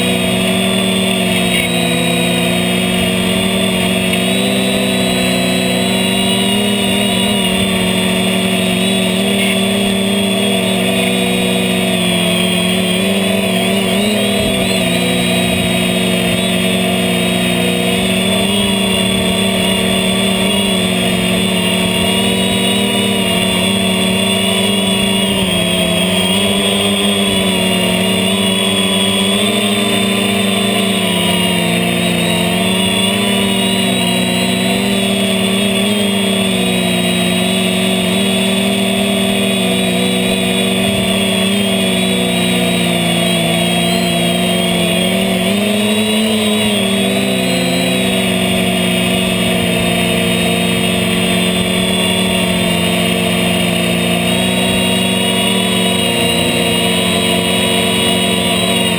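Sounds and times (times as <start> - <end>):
drone propellers whirring: 0.0 - 58.9.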